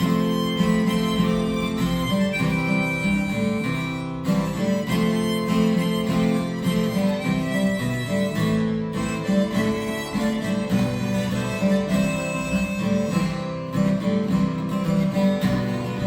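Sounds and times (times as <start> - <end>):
guitar melody: 0.0 - 16.0.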